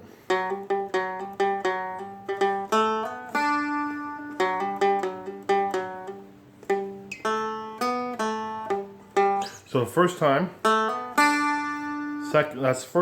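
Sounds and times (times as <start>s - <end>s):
guitar picking riff: 0.0s - 13.0s.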